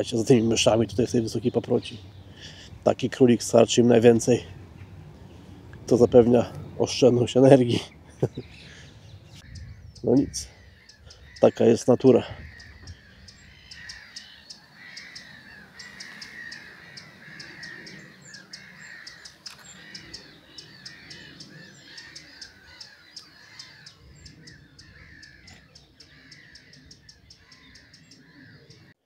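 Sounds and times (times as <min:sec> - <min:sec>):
birds cawing: 0:00.0 - 0:29.0.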